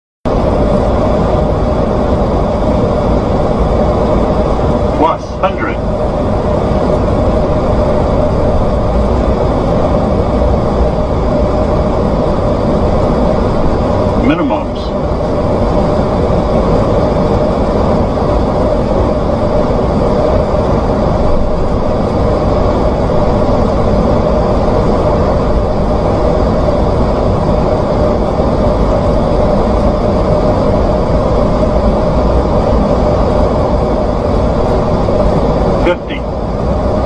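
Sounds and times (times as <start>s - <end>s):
airflow rush in cockpit: 0.2s - 37.0s
jet engine noise: 0.2s - 37.0s.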